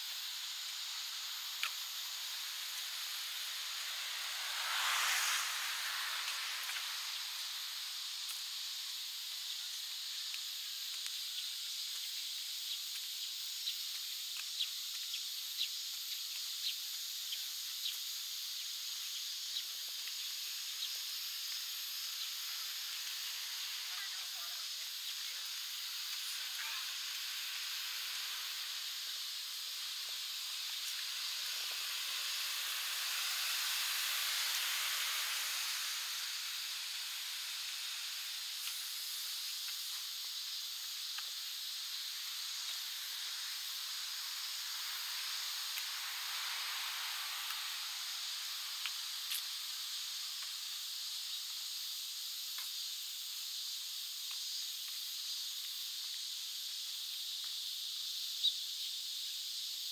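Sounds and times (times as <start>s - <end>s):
cicadas droning: 0.0s - 59.9s.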